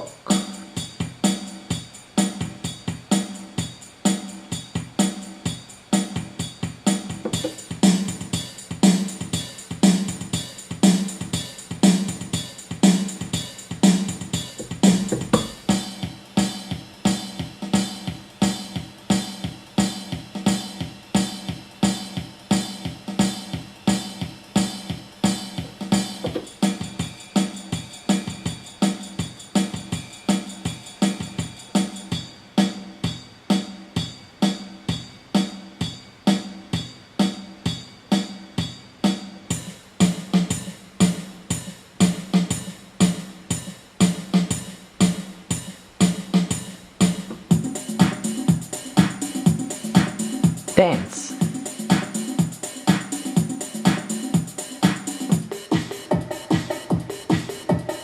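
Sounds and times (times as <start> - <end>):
drum machine rock beat: 0.0 - 58.0.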